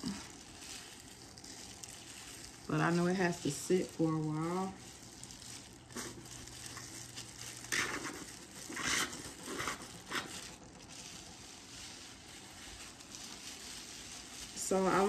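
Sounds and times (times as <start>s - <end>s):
plastic gloves crinkling: 0.0s - 15.0s.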